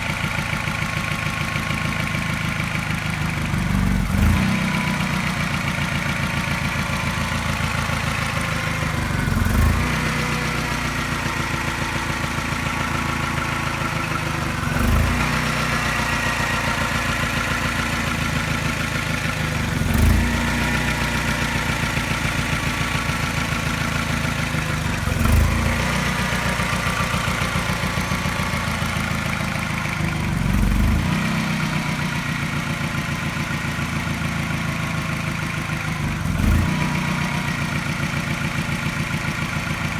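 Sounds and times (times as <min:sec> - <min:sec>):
car engine idling with misfire: 0:00.0 - 0:39.9.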